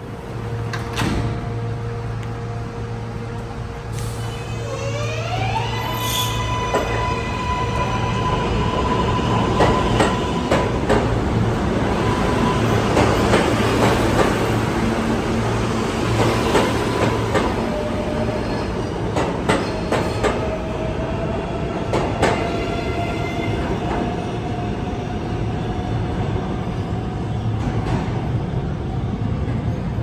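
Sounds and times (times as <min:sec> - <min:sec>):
rising train whine: 0:00.0 - 0:30.0
subway train rumble: 0:00.0 - 0:30.0.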